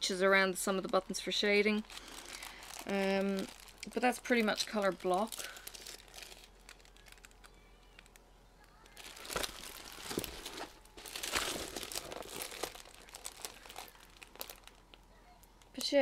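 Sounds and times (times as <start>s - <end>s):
plastic film crinkling: 0.4s - 16.0s.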